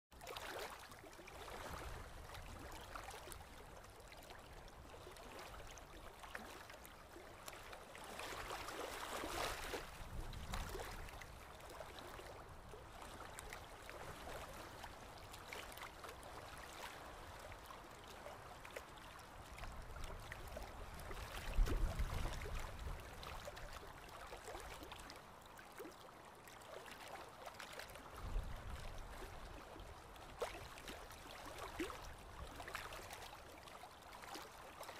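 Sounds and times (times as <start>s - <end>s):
small splashes: 0.2s - 34.9s
water trickling and sloshing: 0.2s - 34.9s.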